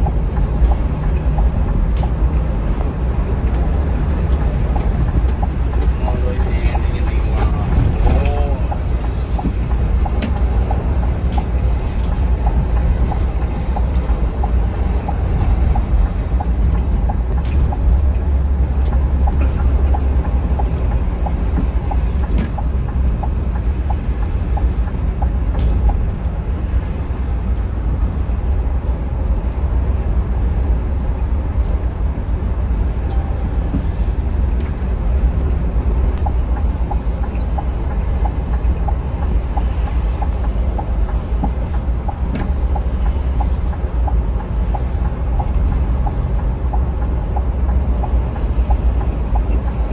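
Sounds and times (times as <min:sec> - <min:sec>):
coach engine and road rumble: 0:00.0 - 0:49.9.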